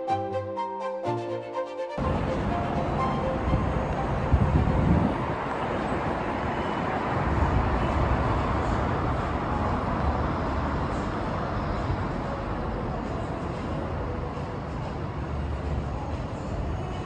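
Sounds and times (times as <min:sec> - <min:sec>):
passing road traffic: 0:02.0 - 0:17.0.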